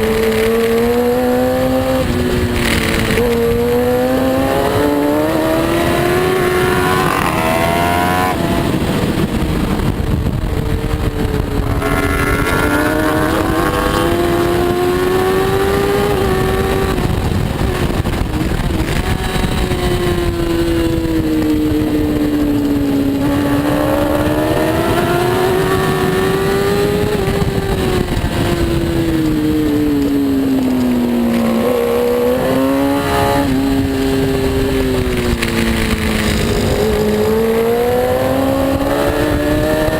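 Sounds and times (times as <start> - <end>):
motorcycle engine at high revs: 0.0 - 39.9
steady rushing noise: 0.0 - 39.9.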